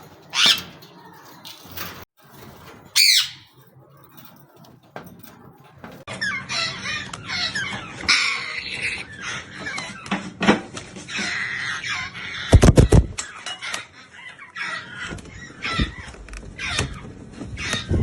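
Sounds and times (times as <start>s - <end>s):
parrot chicks squawking: 0.0s - 3.7s, 5.7s - 10.4s, 11.0s - 18.0s.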